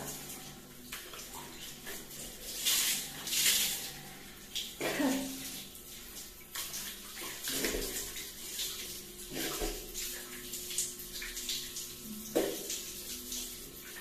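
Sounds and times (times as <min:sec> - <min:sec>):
shower spray splashing: 0:00.0 - 0:14.0.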